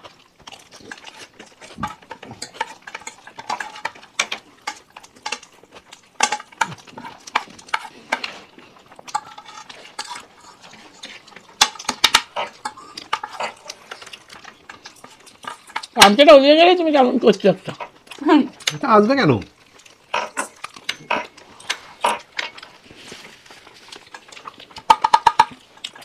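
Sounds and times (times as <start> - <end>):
spoons clinking and scraping plates: 0.0 - 16.3, 19.6 - 26.0.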